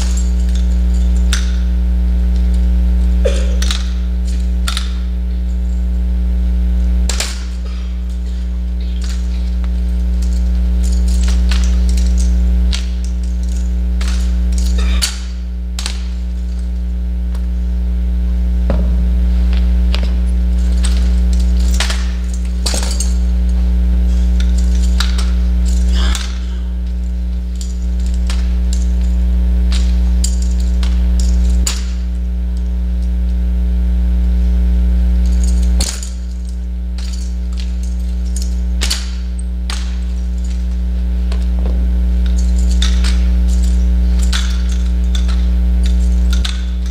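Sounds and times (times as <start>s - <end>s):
steady electrical hum: 0.0s - 46.9s.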